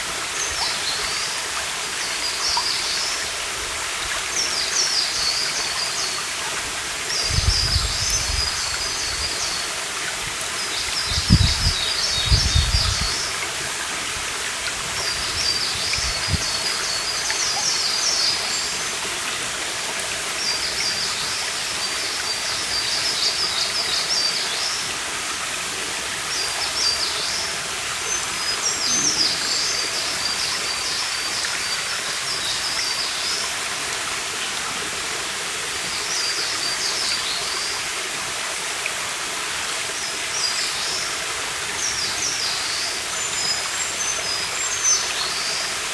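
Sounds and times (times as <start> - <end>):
stream running: 0.0 - 45.9.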